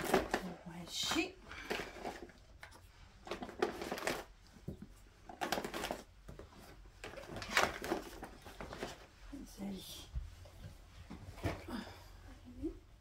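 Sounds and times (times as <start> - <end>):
rustling of small items: 0.0 - 12.7.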